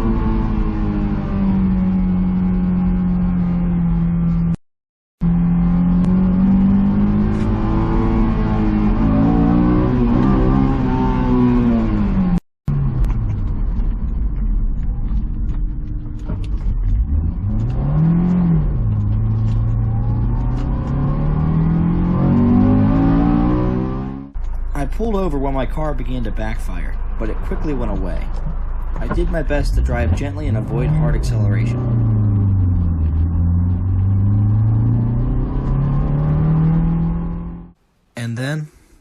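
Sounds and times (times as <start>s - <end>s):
car engine while driving: 0.0s - 4.6s, 5.2s - 38.5s.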